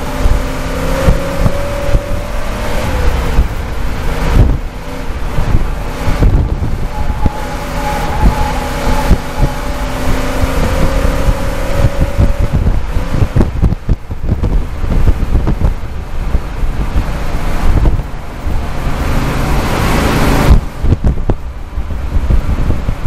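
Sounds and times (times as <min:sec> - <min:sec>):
car engine running under load: 0:00.0 - 0:23.0
wind buffeting microphone: 0:00.0 - 0:23.0.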